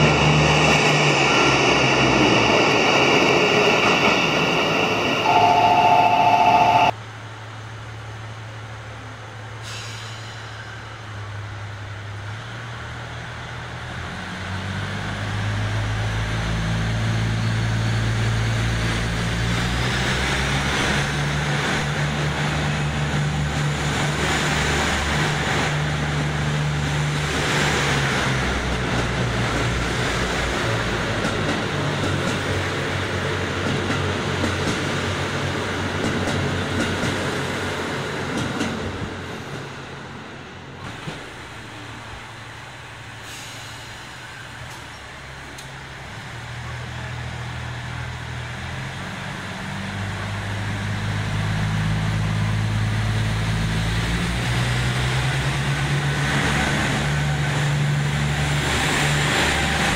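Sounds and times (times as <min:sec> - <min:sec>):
diesel train engines revving: 0:00.0 - 0:59.9
train cars rushing past: 0:00.0 - 0:59.9.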